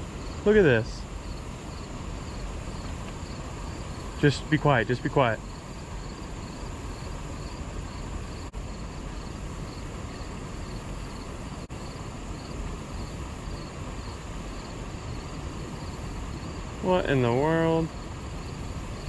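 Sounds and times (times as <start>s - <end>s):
insects chirping: 0.0s - 19.0s
steady rushing noise: 0.0s - 19.0s.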